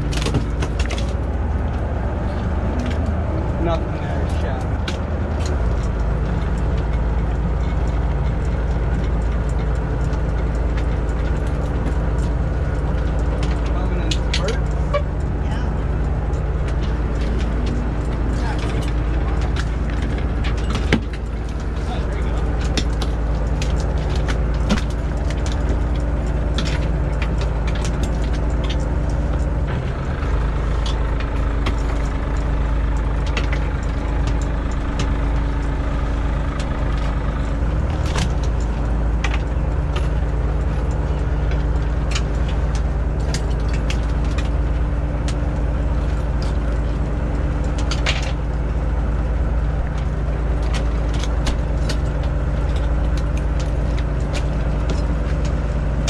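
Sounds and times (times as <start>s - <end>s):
boat engine and hauler hum: 0.0s - 56.0s.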